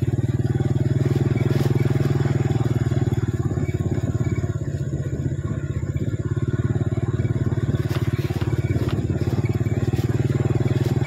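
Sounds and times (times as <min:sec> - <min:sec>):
motorcycle engine putter: 0:00.0 - 0:11.0.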